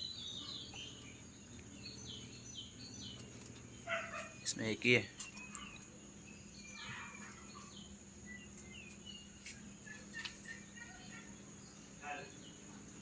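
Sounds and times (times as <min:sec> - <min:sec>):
steady high-pitched hum: 0:00.0 - 0:13.0.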